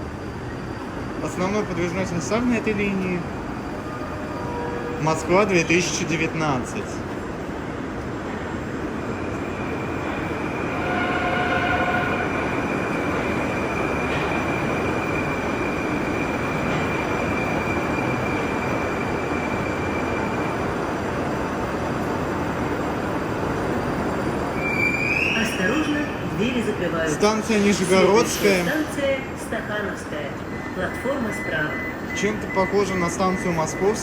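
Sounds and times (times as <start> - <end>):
metro train rumbling: 0.0 - 34.0.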